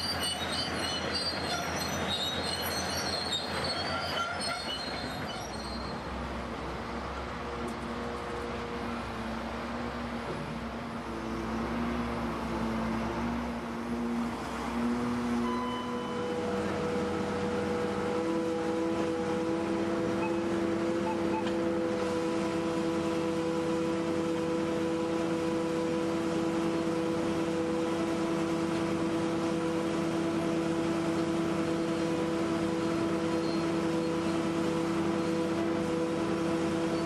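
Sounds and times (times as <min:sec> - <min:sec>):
crane engine droning hum: 0:00.0 - 0:37.0.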